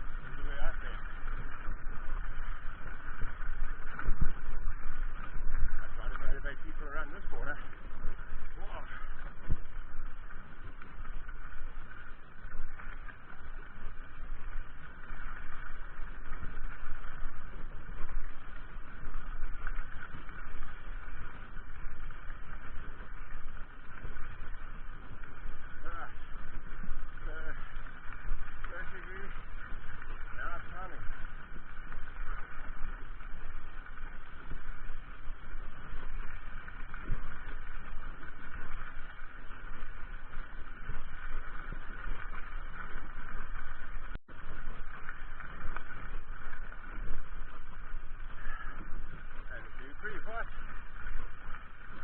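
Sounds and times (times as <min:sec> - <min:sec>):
bike tyre noise: 0:00.0 - 0:52.0
wind rushing over microphone: 0:00.0 - 0:52.0.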